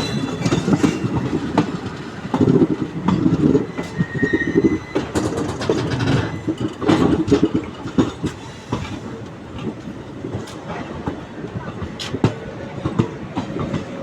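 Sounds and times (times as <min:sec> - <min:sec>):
train wheels clattering over rail joints: 0:00.0 - 0:14.0.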